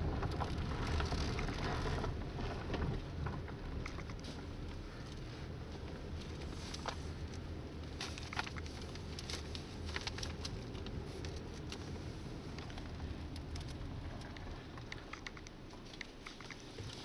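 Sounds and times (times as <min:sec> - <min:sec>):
vehicle driving low rumble: 0:00.0 - 0:17.0.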